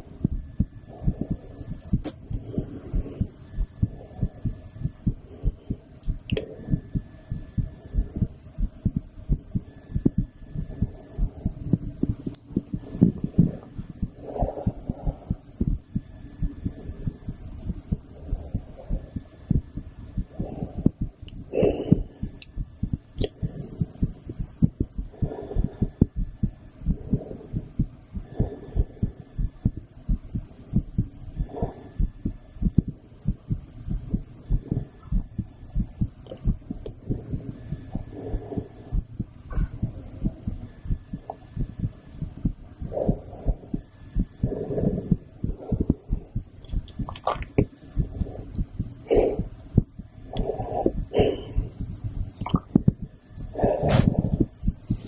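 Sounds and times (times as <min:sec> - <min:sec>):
heartbeat through stethoscope: 0:00.0 - 0:55.0
soft higher-pitched noise: 0:00.0 - 0:55.0.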